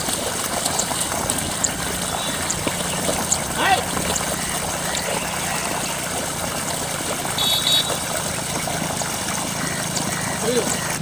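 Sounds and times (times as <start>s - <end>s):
constant hiss: 0.0s - 11.0s
low engine hum: 0.0s - 11.0s.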